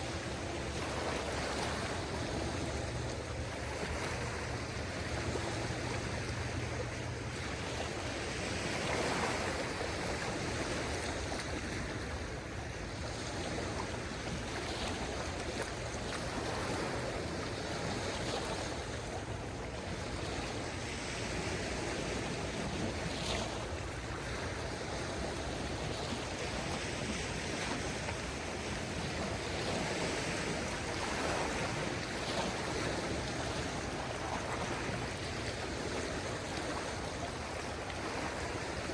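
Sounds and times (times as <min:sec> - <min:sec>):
small sea waves washing in: 0:00.0 - 0:38.9.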